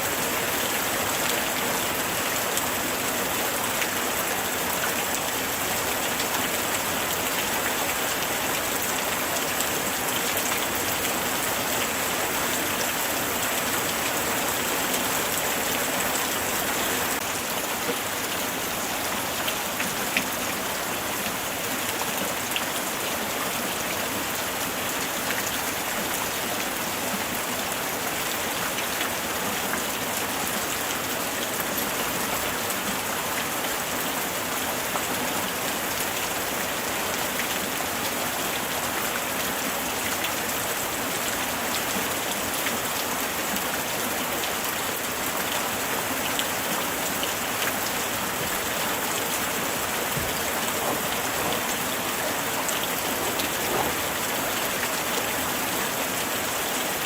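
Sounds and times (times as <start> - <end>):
light rain falling: 0.0 - 57.0
raindrops ticking on surfaces: 0.1 - 57.0.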